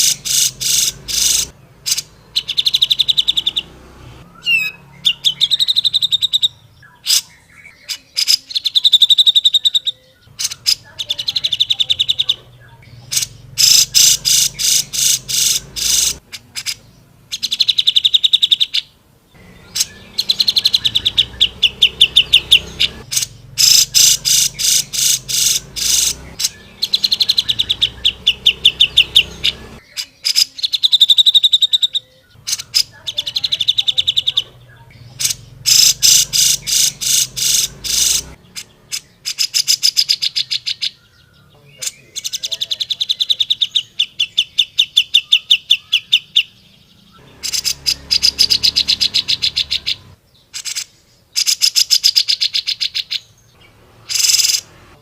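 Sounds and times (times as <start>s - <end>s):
bird singing rattling trills: 0.0s - 54.8s
sharp bird calls: 0.0s - 55.0s.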